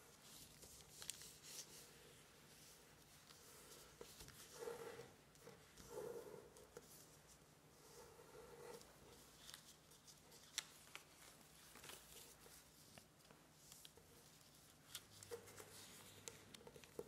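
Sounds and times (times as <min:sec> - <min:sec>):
paper rustling and crinkling: 0:00.0 - 0:05.9, 0:08.7 - 0:17.0.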